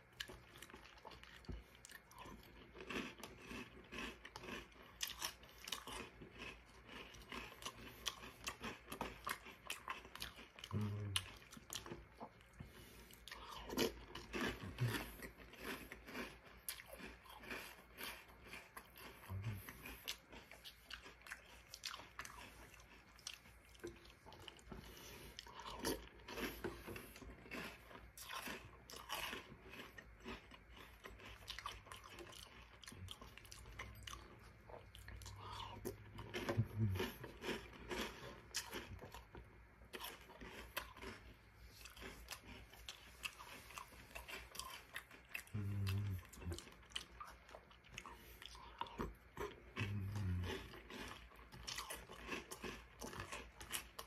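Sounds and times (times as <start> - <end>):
chewing crunchy cereal: 0.0 - 54.0.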